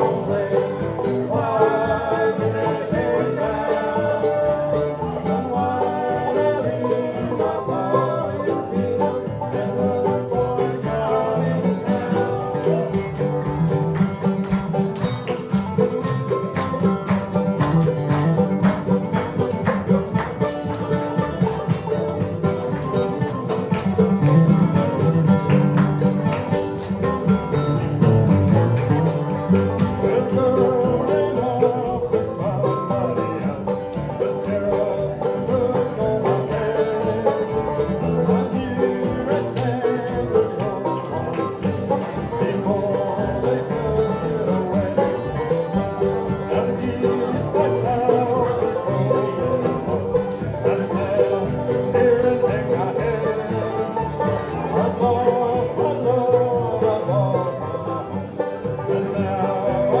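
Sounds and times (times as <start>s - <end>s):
banjo picking: 0.0s - 60.0s
bluegrass band playing: 0.0s - 60.0s.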